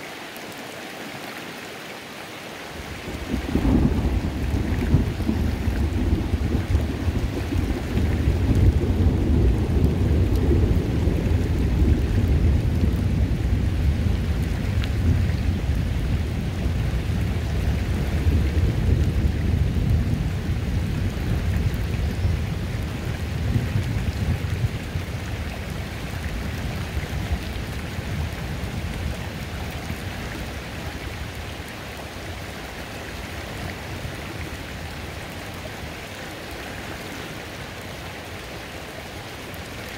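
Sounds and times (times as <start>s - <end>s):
rain falling on a creek: 0.0s - 39.9s.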